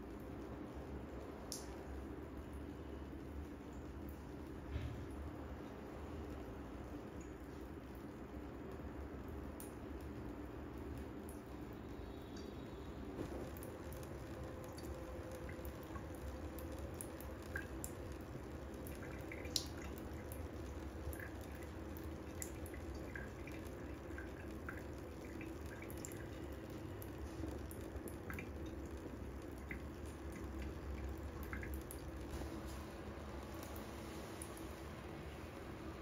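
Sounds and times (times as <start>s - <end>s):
water drips and ticks: 0.0s - 36.0s
water trickling into a steel sink: 0.1s - 36.0s.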